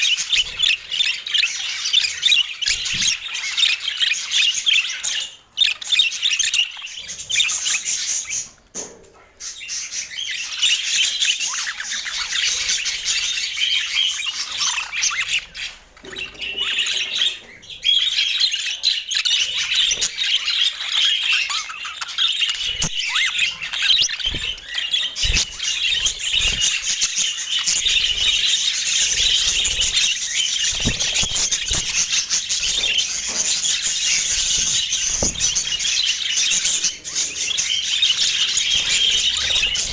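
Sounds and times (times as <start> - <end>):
budgerigars chattering: 0.0 - 8.6, 9.4 - 39.9.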